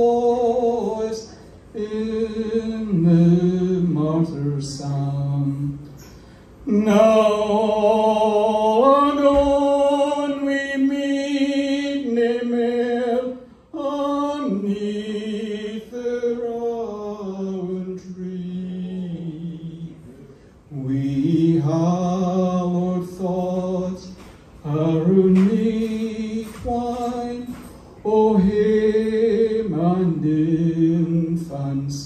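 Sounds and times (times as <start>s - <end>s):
man singing unaccompanied: 0.0s - 6.0s, 6.6s - 32.0s.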